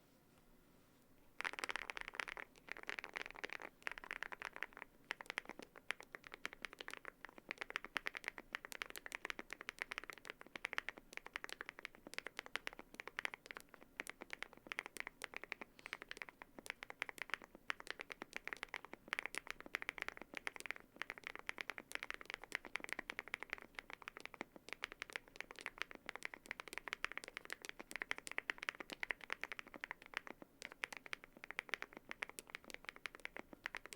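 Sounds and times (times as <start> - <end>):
mechanical keyboard typing: 1.4 - 33.9.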